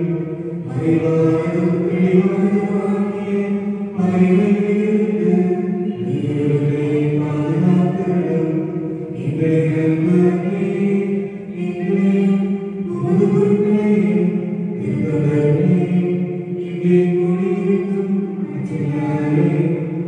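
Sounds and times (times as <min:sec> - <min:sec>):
voices singing a slow chant: 0:00.0 - 0:20.0.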